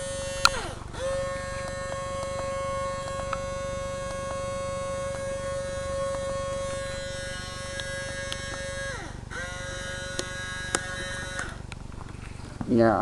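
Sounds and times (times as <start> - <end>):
camcorder tape mechanism buzzing: 0.0 - 12.4
camcorder mechanism clicks: 0.2 - 11.8.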